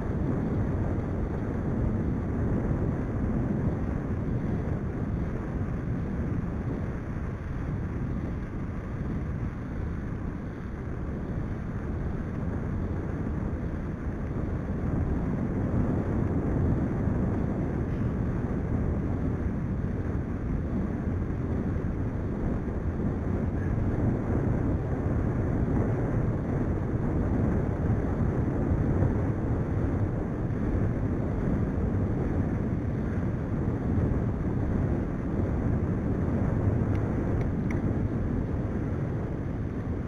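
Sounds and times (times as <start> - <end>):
wind rumble on microphone: 0.0 - 40.0.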